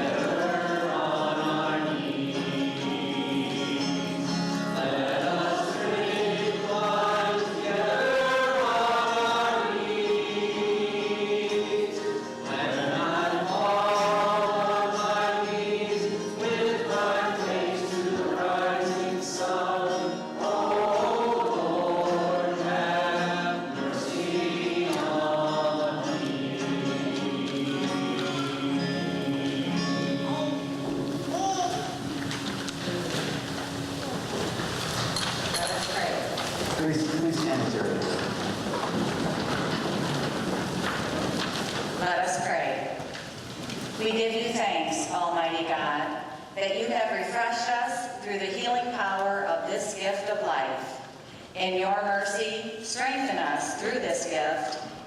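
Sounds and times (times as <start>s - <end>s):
group singing a hymn: 0.0s - 55.0s.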